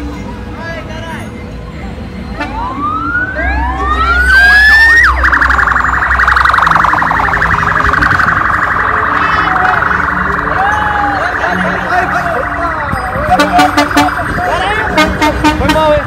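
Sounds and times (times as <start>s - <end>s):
electronic vehicle siren: 2.4s - 15.5s.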